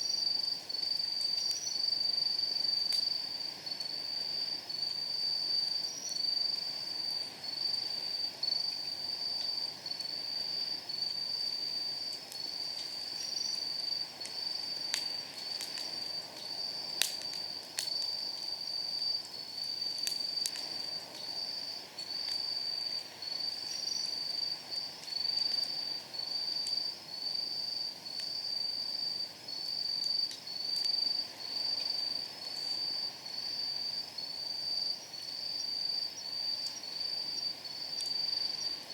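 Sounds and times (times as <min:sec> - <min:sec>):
insects chirping: 0:00.0 - 0:38.9
wood fire crackling: 0:00.0 - 0:38.9.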